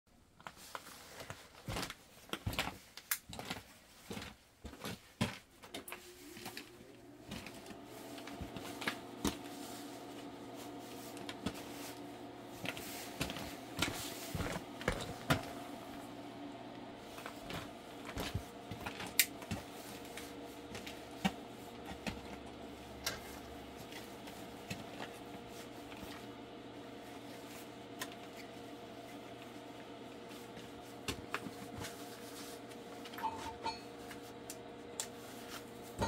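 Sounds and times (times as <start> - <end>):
motor humming: 5.8 - 36.0.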